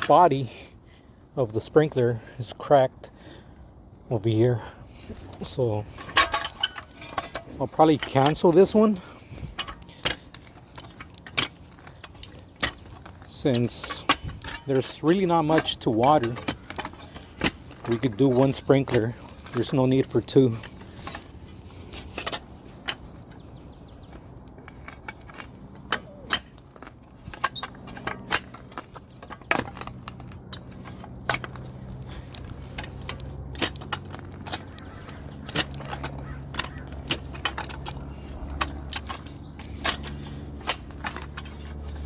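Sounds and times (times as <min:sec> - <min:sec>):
metal tool scraping dirt and stones: 0:00.0 - 0:00.6, 0:04.1 - 0:42.0.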